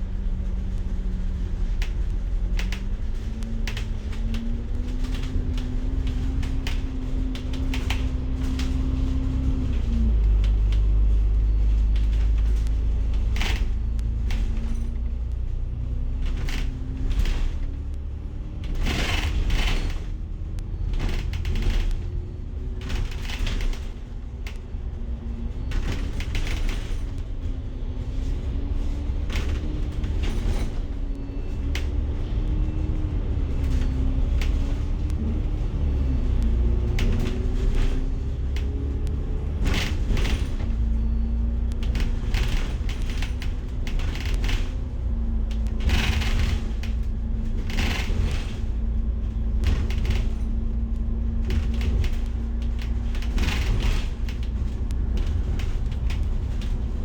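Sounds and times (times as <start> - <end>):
bodywork clicks and rattles: 0.0 - 57.0
bus engine and road rumble: 0.0 - 57.0.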